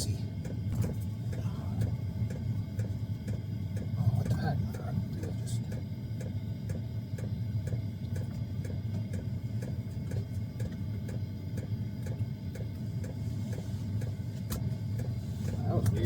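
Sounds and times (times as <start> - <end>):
air heater humming: 0.0 - 16.0
fuel pump ticking: 0.0 - 16.0.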